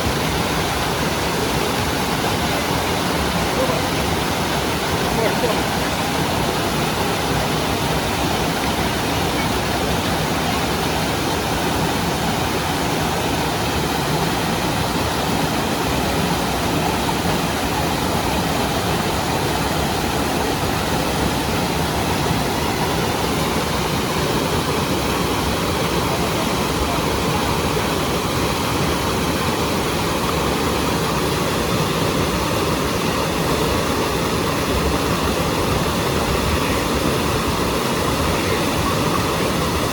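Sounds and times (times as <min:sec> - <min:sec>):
fast-flowing water rushing: 0:00.0 - 0:39.9.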